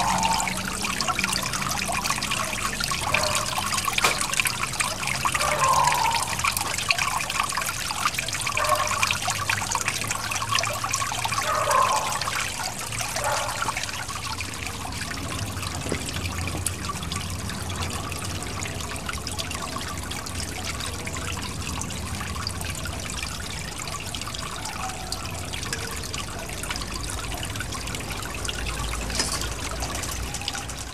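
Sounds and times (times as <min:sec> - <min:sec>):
water trickling and splashing: 0:00.0 - 0:30.9.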